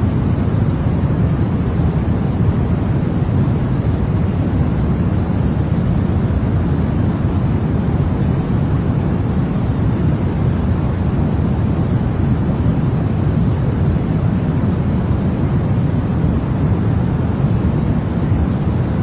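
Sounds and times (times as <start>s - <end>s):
low rushing noise: 0.0s - 19.0s.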